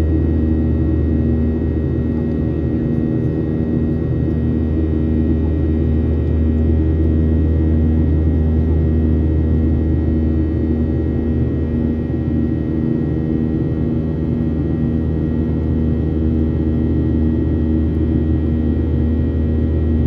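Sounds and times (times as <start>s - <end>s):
jet engine drone in cabin: 0.0s - 20.0s.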